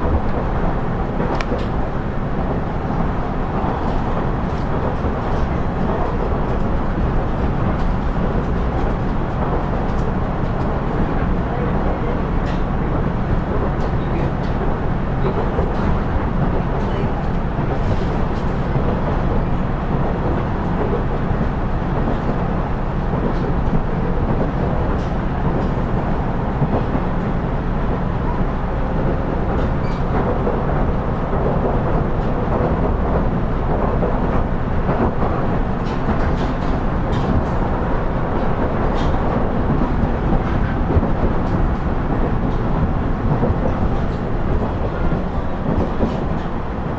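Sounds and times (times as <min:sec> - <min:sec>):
wheels rumbling on rails: 0:00.0 - 0:46.9.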